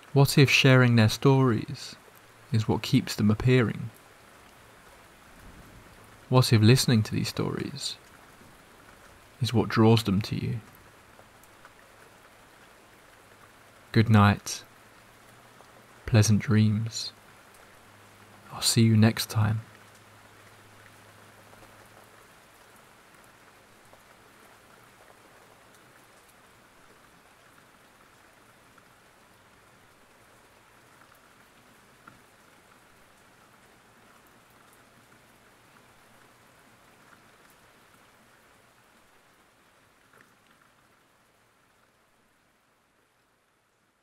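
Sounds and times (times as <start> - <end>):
faint steady rain: 0.0 - 44.0
louder raindrops: 0.0 - 44.0.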